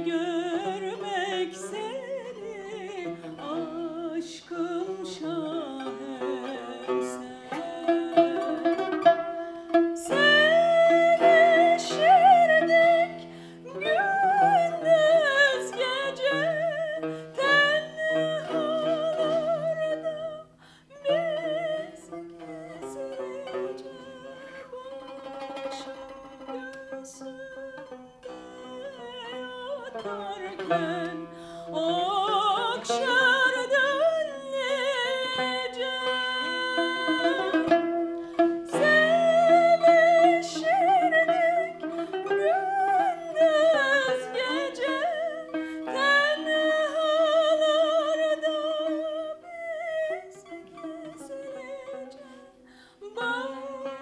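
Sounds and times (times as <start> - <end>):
plucked lute accompaniment: 0.0 - 54.0
woman singing: 0.0 - 54.0.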